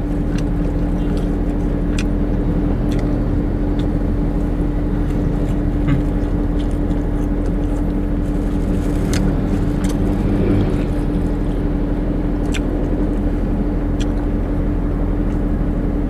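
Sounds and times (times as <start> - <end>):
person eating: 0.0 - 14.4
car engine idling: 0.0 - 16.0.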